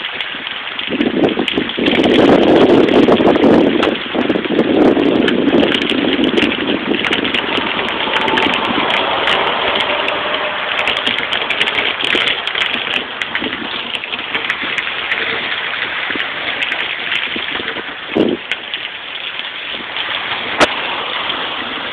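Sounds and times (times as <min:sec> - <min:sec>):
heavy rain falling: 0:00.0 - 0:21.9
water gushing and splashing: 0:00.0 - 0:21.9.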